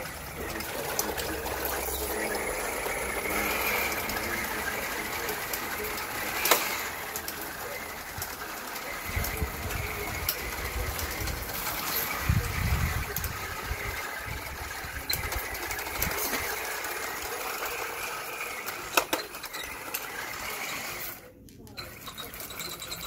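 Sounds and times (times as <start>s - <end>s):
small electric motor whirring: 0.0s - 23.0s.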